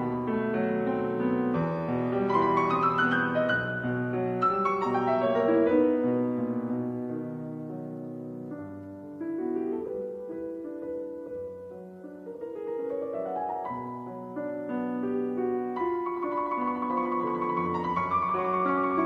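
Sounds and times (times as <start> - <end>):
piano melody over chords: 0.0 - 19.0.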